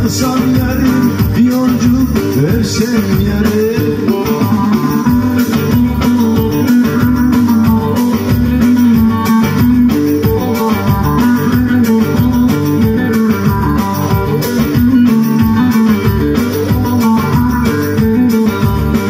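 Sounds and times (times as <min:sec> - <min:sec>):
amplified plucked lute: 0:00.0 - 0:19.0.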